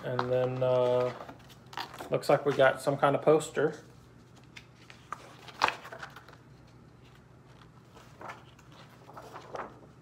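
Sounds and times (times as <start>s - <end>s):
paper rustling and crinkling: 0.0s - 3.0s, 3.9s - 10.0s.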